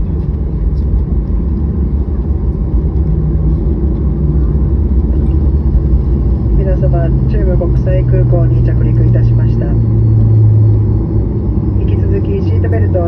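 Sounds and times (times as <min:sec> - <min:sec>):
airliner cabin low rumble: 0:00.0 - 0:13.0.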